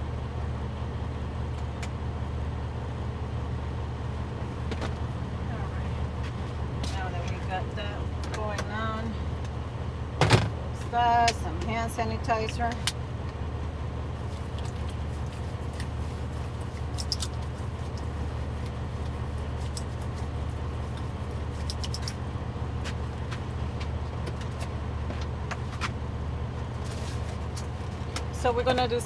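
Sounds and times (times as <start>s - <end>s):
diesel truck engine idling: 0.0s - 29.0s.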